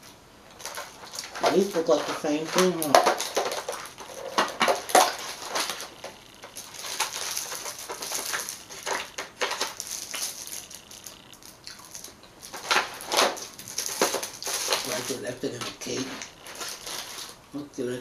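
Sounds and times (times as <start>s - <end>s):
candy wrappers crinkling: 0.0s - 18.0s.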